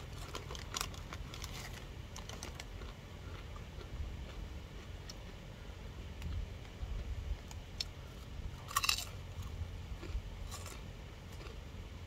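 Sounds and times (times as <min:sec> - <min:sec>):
crunching and chewing chips: 0:00.0 - 0:05.6, 0:06.2 - 0:11.8.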